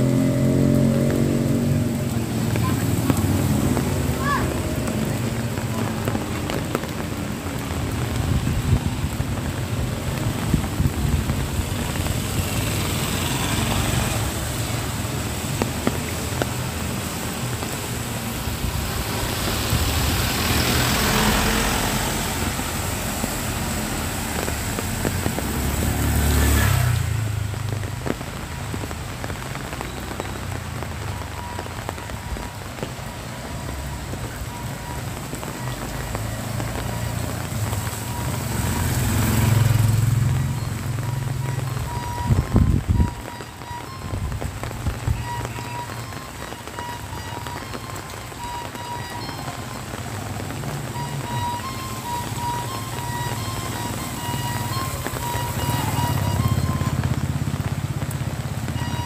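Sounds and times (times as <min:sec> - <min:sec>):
low traffic rumble: 0:00.0 - 0:59.0
rain hissing on wet street: 0:00.0 - 0:59.0
tyres swishing on wet road: 0:00.0 - 0:59.0.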